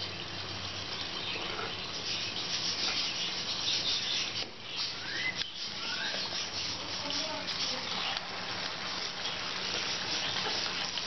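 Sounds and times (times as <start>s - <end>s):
hot oil sizzling in a pan: 0.0s - 11.0s.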